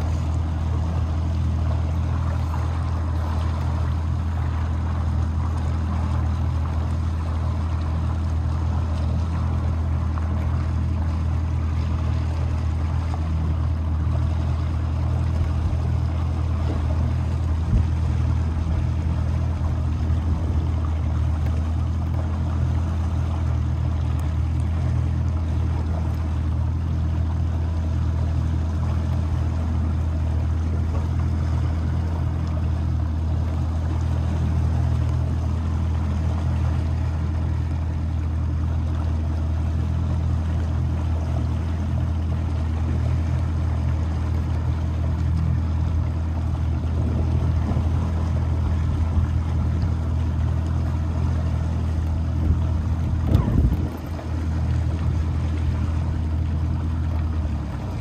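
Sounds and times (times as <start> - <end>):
motorboat engine humming: 0.0 - 58.0
water noise: 0.0 - 58.0.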